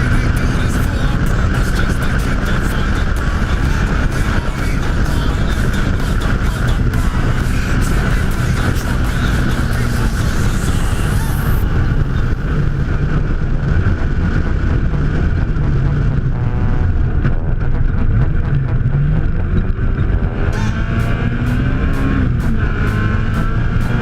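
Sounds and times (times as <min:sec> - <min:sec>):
race vehicle engine rumbling: 0:00.0 - 0:24.0.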